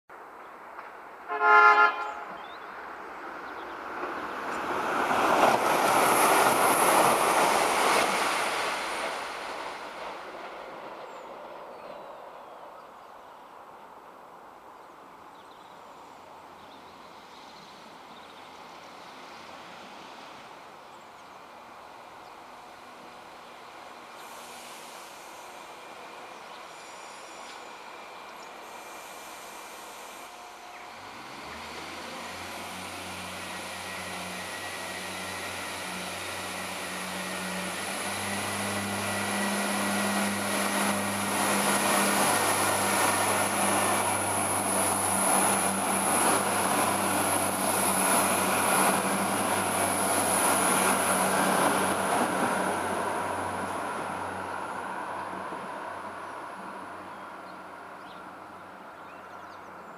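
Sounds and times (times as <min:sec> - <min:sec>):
train engine rumble: 0:02.9 - 0:12.8, 0:13.6 - 0:59.0.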